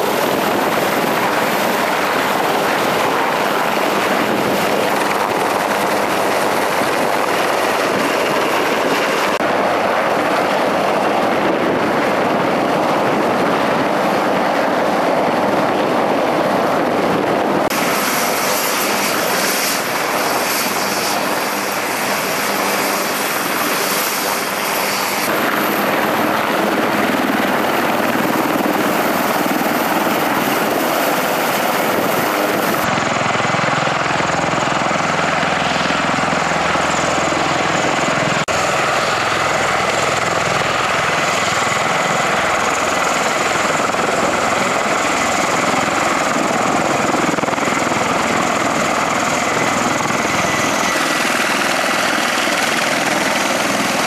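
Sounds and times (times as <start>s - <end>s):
helicopter turbine and rotor noise: 0.0s - 54.0s.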